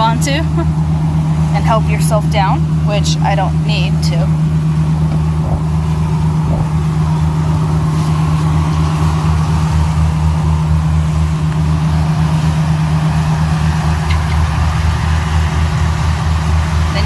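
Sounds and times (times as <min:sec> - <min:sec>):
boat engine low drone: 0:00.0 - 0:17.0.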